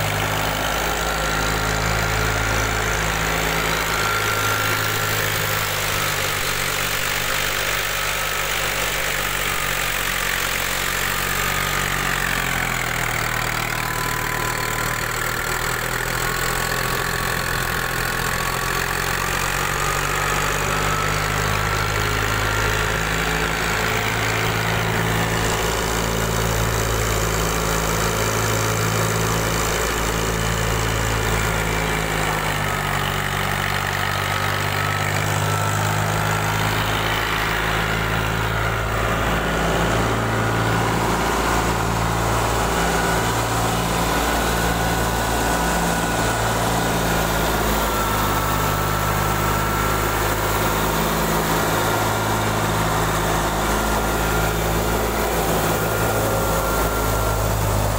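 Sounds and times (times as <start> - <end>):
thresher and diesel engine drone: 0.0 - 57.9.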